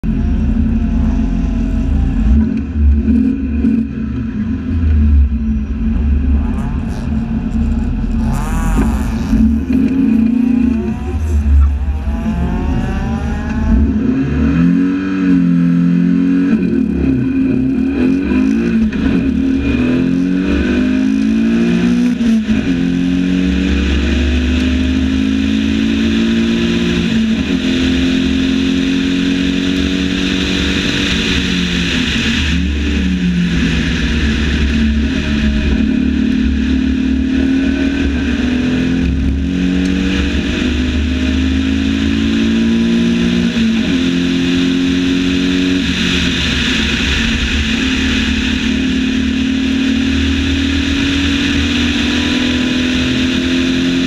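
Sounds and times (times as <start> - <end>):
car engine revving and accelerating: 0.0 - 54.0.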